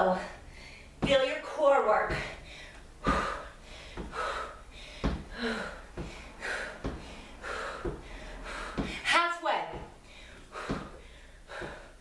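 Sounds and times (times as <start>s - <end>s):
woman breathing hard: 0.0s - 1.0s, 2.1s - 9.1s, 9.8s - 12.0s.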